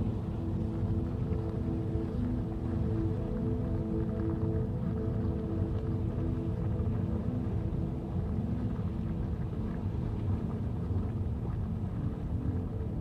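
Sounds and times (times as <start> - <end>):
faint sustained tones: 0.0 - 13.0
low rumbling drone: 0.0 - 13.0.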